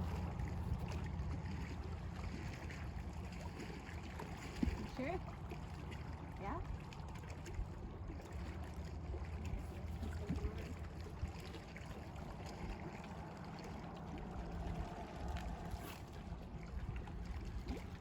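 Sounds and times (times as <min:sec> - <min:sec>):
water lapping: 0:00.0 - 0:18.0.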